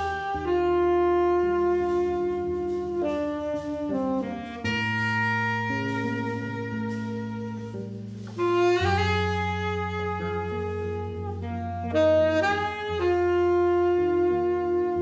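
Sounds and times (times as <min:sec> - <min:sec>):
electric bass line: 0:00.0 - 0:15.0
tenor saxophone melody: 0:00.0 - 0:15.0.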